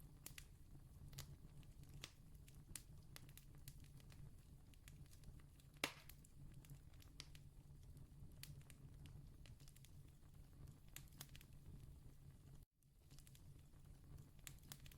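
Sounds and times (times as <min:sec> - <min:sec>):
campfire crackling: 0:00.1 - 0:11.9, 0:13.0 - 0:14.9.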